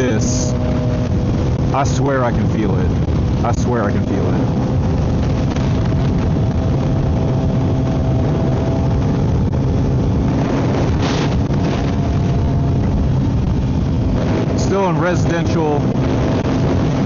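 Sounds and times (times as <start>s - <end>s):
motorcycle engine cruising: 0.0s - 17.0s
wind rushing over microphone: 0.0s - 17.0s.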